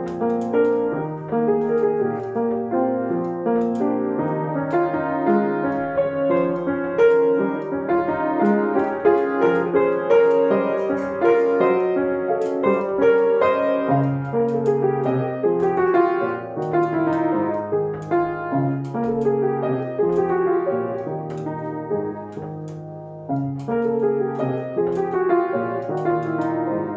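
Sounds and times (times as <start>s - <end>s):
solo piano melody: 0.0s - 26.9s.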